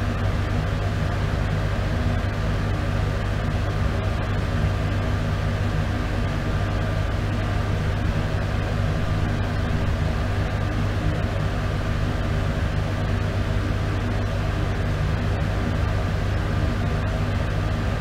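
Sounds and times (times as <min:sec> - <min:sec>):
bathroom exhaust fan running: 0:00.0 - 0:18.0.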